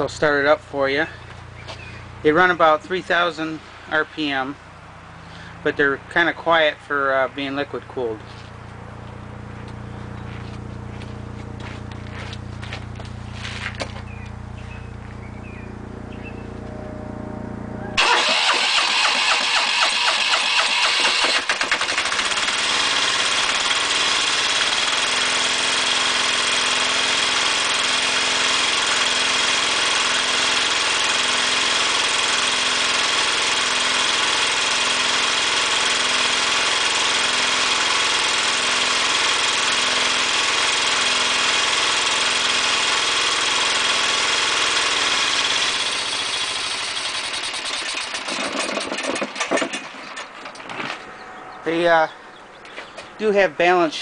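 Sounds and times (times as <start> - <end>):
diesel engine cranking: 0.0 - 53.3
diesel engine running: 0.0 - 53.6.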